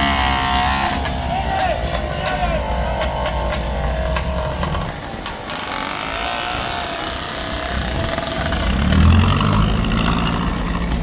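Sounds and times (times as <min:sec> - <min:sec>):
diesel engine revving: 0:00.0 - 0:04.9, 0:05.5 - 0:11.0.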